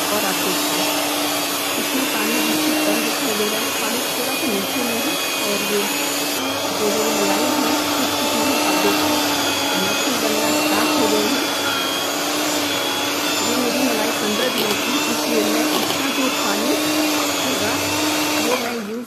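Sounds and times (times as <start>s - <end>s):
beaters churning cream: 0.0s - 19.0s
electric hand mixer humming: 0.0s - 19.0s.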